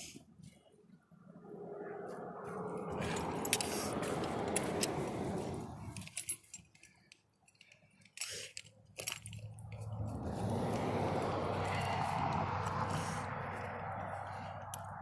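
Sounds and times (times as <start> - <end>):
metal chain clinking: 2.8 - 15.0.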